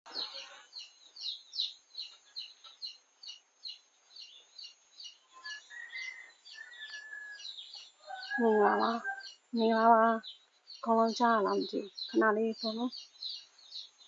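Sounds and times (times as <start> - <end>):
small bird chirping: 0.1 - 14.0.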